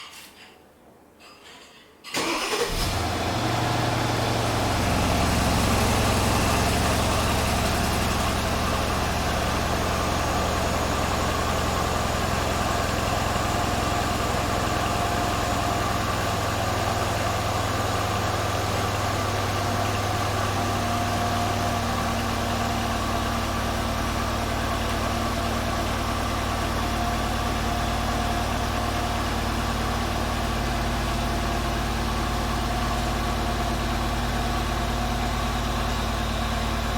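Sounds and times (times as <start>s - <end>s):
car engine idling: 2.4s - 36.9s.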